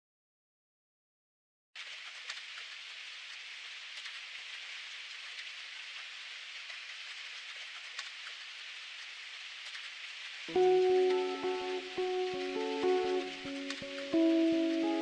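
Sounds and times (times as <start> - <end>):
steady rain hiss: 1.8 - 15.0.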